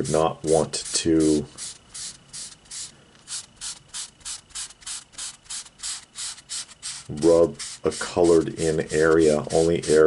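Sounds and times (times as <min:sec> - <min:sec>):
eraser rubbing on paper: 0:00.4 - 0:10.0.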